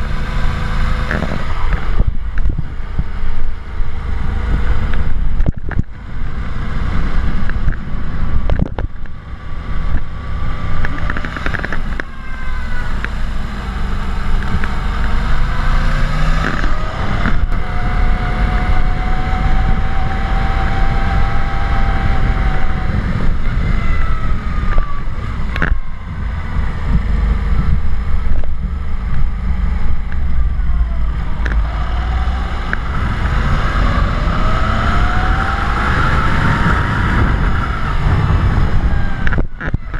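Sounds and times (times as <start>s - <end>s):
motorbike engine: 0.0s - 39.9s
wind buffeting microphone: 0.0s - 39.9s.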